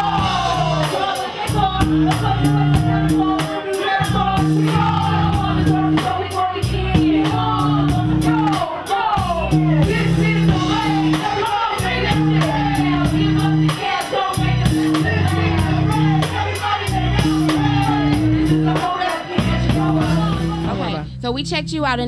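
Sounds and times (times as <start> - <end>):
steady hi-hat: 0.0 - 20.8
heavy bass line: 0.0 - 22.0
rapping over a beat: 0.6 - 22.0.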